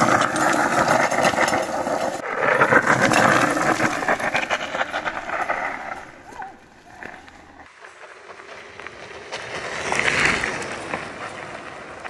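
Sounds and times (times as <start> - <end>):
wheel spinning on gravel: 0.0 - 12.0.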